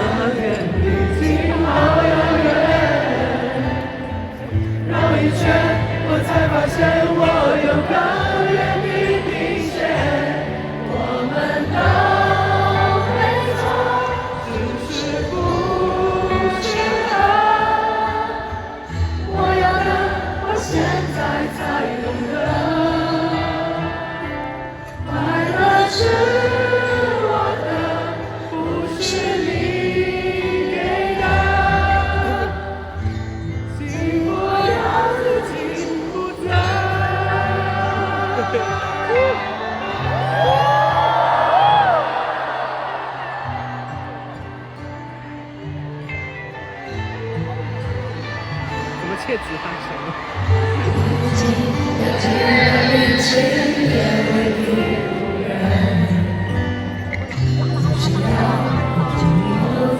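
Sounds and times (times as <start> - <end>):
choir-like singing: 0.0 - 49.0, 50.0 - 59.9.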